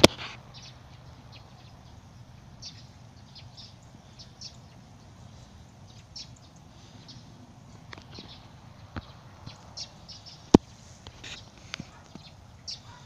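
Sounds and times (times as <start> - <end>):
low background rumble: 0.0 - 13.0
high bird chirps: 0.4 - 13.0.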